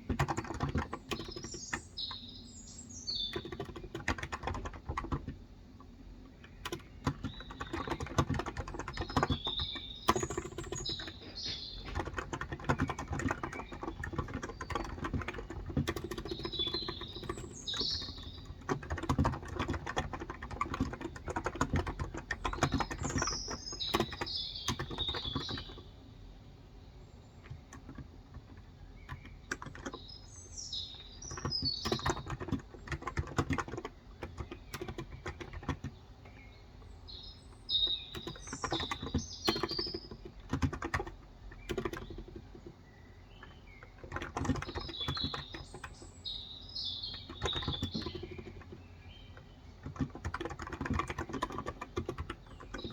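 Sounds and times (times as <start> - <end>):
soft keyboard keystrokes: 0.0 - 2.3, 3.1 - 25.9, 27.4 - 46.3, 47.0 - 52.9
birds chirping: 0.0 - 52.9.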